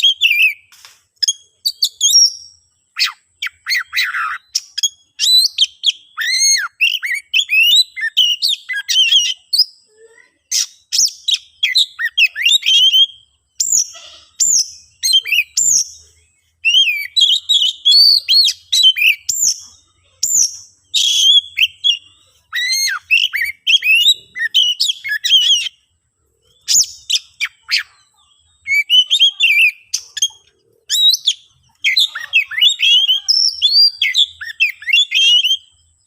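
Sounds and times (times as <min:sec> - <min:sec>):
bird singing whistles and chirps: 0:00.0 - 0:36.0.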